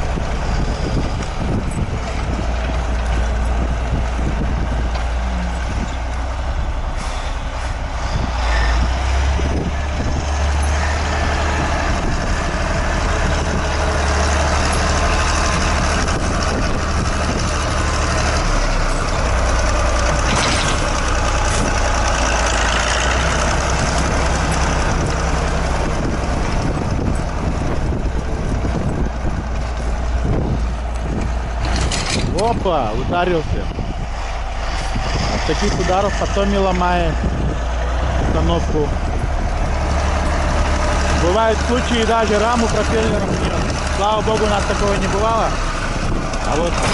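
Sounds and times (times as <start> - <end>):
broad rushing noise: 0.0 - 46.9
tractor diesel engine droning: 0.0 - 46.9.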